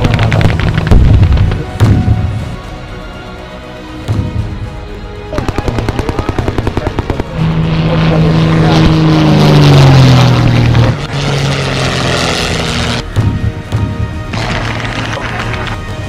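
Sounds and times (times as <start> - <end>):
background music: 0.0 - 16.0
propeller plane engine drone: 0.0 - 16.0.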